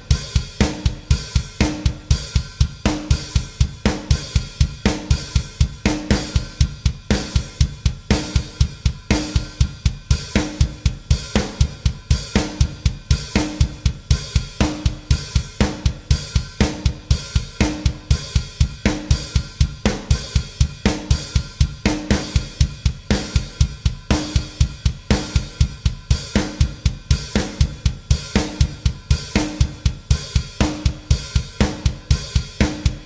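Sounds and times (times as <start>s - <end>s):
bass drum: 0.0s - 33.0s
snare and cymbal accents: 0.0s - 33.0s.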